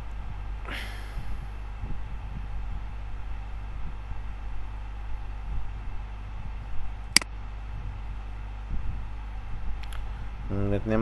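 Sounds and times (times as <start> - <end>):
low electrical hum and hiss: 0.0 - 11.0.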